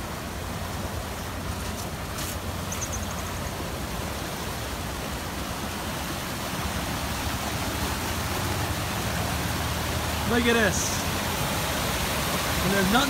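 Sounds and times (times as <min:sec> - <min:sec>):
water rushing down a channel: 0:00.0 - 0:13.0.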